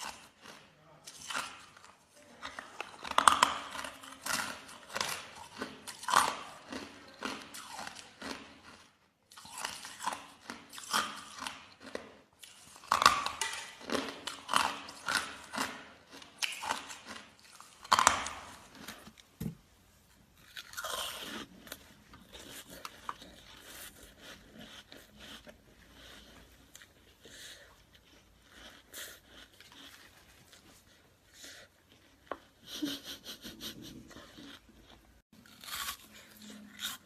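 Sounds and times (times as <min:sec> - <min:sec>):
ice cubes being chewed: 0:00.0 - 0:19.6, 0:20.2 - 0:32.6, 0:34.1 - 0:37.0.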